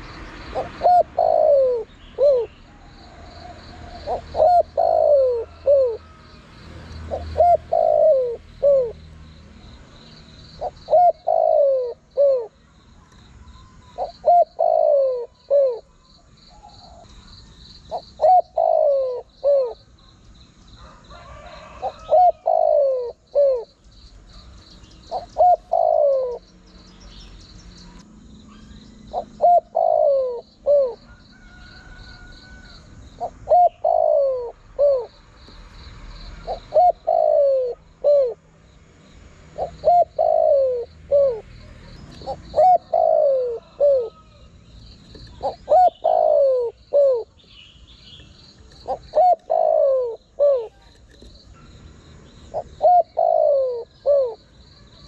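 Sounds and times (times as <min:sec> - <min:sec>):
dove cooing: 0:00.0 - 0:09.0, 0:10.6 - 0:12.6, 0:13.5 - 0:19.9, 0:20.8 - 0:23.8, 0:24.4 - 0:26.5, 0:27.9 - 0:35.2, 0:36.1 - 0:38.5, 0:39.5 - 0:44.5, 0:45.1 - 0:47.4, 0:48.7 - 0:51.7, 0:52.4 - 0:55.0.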